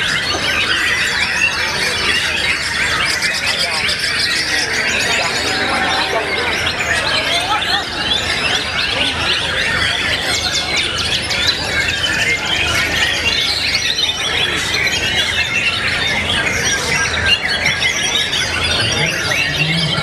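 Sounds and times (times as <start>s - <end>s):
birds singing and chattering: 0.0s - 20.0s.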